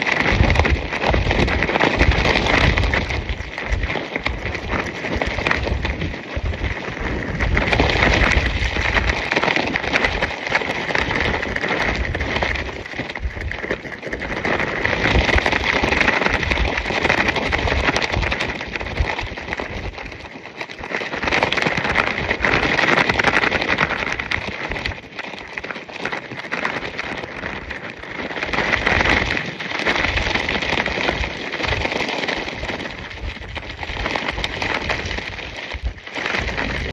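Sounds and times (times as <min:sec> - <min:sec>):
fabric flapping in wind: 0:00.0 - 0:36.9
wind buffeting microphone: 0:00.0 - 0:36.9.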